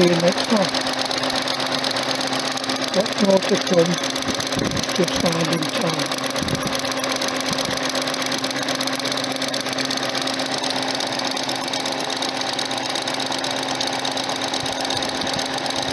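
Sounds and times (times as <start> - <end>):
electric motor whirring: 0.0 - 15.9.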